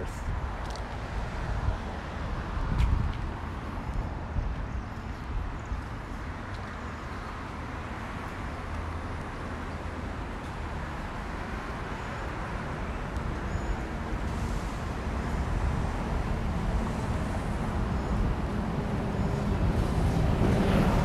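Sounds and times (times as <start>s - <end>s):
road traffic: 0.0s - 21.0s
wind: 0.0s - 21.0s.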